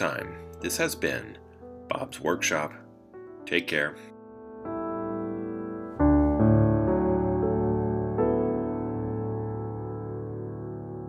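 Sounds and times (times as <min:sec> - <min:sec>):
sustained piano chords: 0:00.0 - 0:11.0.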